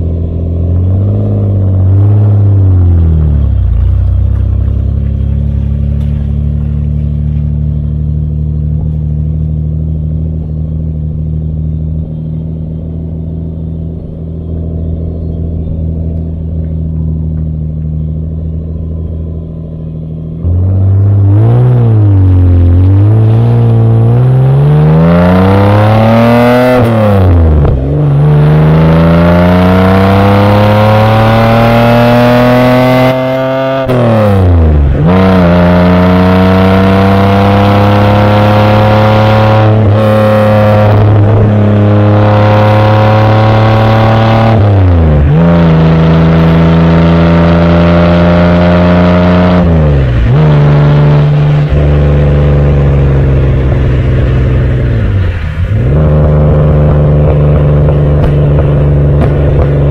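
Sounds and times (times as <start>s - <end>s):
car exhaust accelerating: 0.0s - 59.9s.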